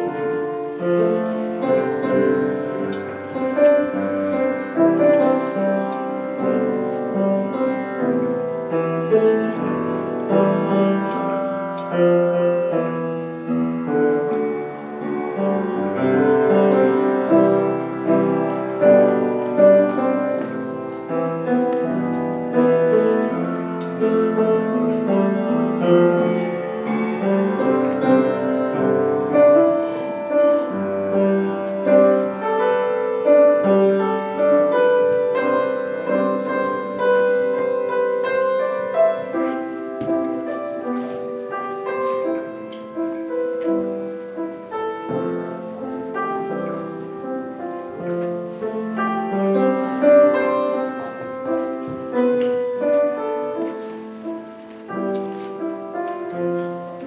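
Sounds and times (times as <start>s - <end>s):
piano playing chords and melody: 0.0s - 57.0s.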